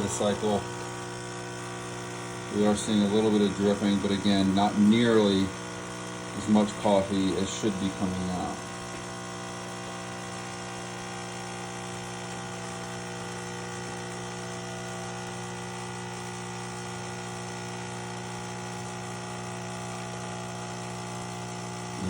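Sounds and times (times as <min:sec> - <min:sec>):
espresso machine pump buzzing: 0:00.0 - 0:22.0.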